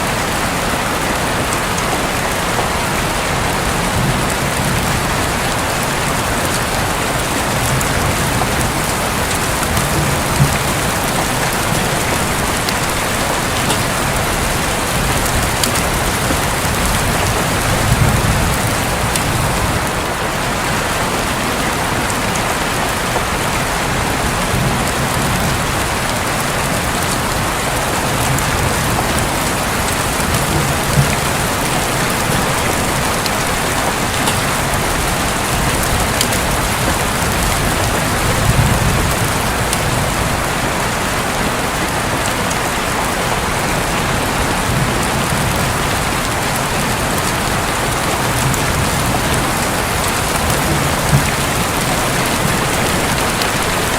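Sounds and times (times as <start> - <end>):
rain falling on a roof: 0.0 - 53.9
distant thunder rumbles: 1.4 - 20.7, 23.4 - 40.6, 43.8 - 53.9.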